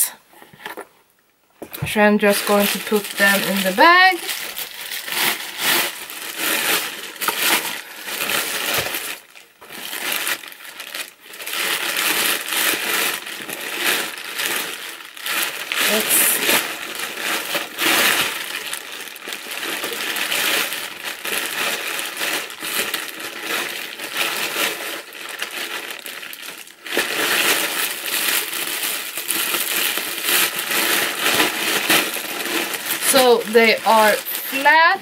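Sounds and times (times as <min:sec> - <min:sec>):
plastic bag rustling: 0:00.0 - 0:35.0.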